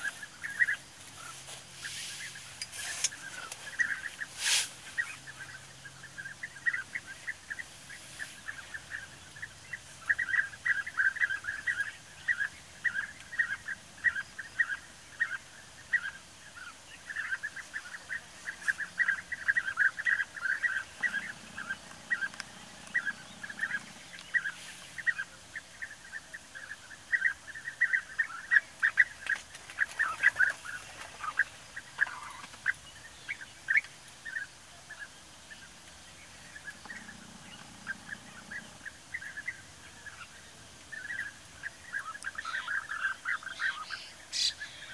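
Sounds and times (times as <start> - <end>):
birds chattering chirps: 0.0 - 44.9.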